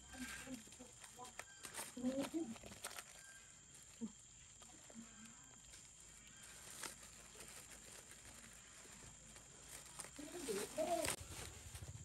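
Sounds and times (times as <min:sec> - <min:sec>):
faint rustling of bags: 0:00.0 - 0:12.0.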